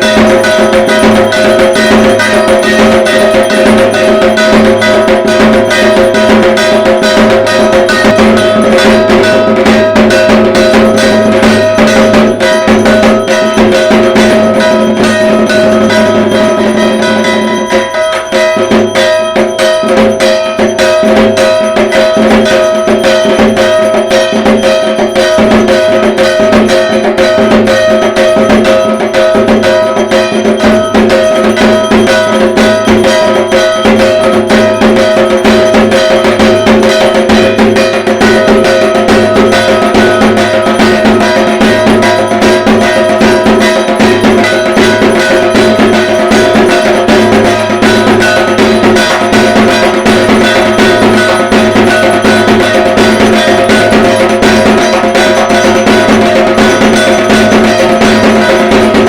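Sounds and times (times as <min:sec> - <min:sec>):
barrel drum beaten with sticks: 0:00.0 - 0:59.0
steady ringing tones: 0:00.0 - 0:59.0.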